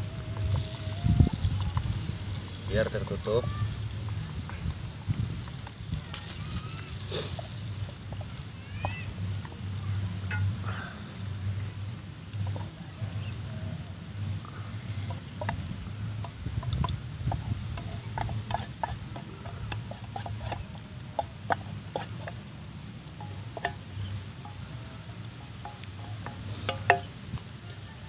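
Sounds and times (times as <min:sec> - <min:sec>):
hot oil crackling and popping: 0:00.0 - 0:28.0
insect chirring: 0:00.0 - 0:28.0.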